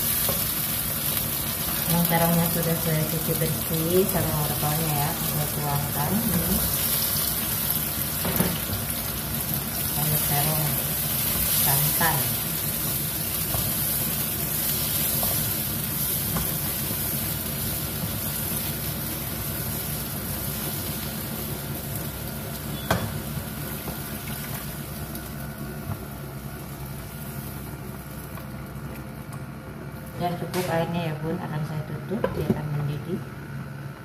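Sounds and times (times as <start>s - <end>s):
vegetables sizzling in pan: 0.0s - 28.4s.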